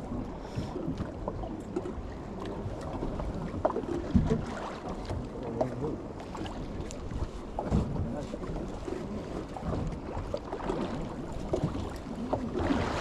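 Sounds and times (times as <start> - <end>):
boat and water rumble: 0.0 - 13.0.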